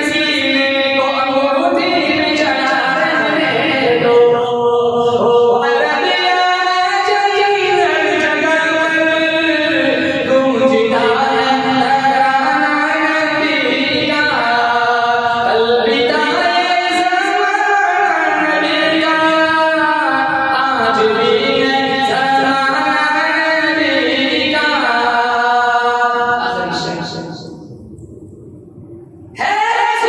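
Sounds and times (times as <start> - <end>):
man singing unaccompanied: 0.0 - 27.5.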